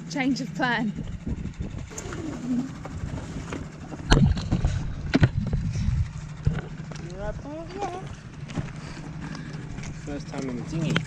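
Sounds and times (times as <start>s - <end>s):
boat motor humming: 0.0s - 11.0s
water noise: 0.0s - 11.0s
wind: 0.0s - 11.0s.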